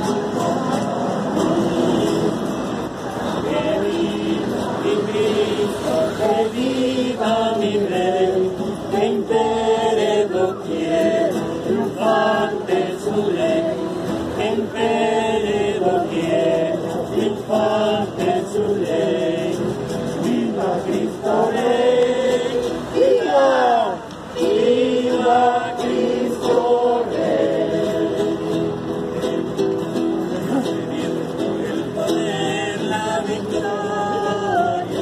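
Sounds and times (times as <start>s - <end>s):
group singing a hymn: 0.0s - 29.6s, 30.2s - 35.0s.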